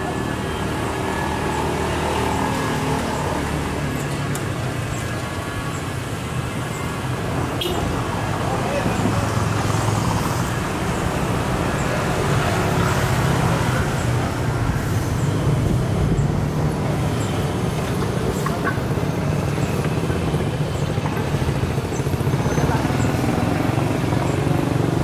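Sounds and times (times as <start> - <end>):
motor scooters passing: 0.0 - 25.0
road noise: 0.0 - 25.0.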